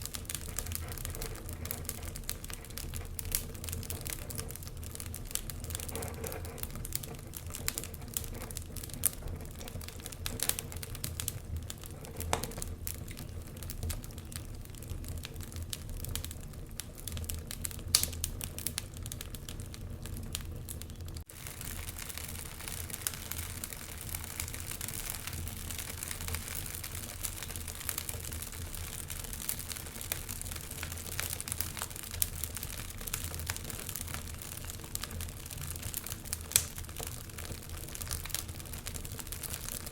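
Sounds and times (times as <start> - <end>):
low rumble of fire: 0.0 - 39.9
wood fire crackling: 0.0 - 39.9.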